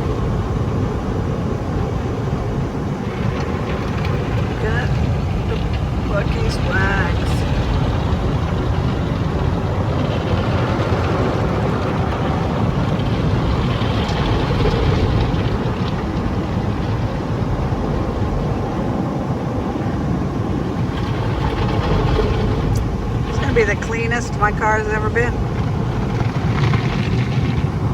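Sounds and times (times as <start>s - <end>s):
car wash spray and machinery: 0.0s - 27.9s.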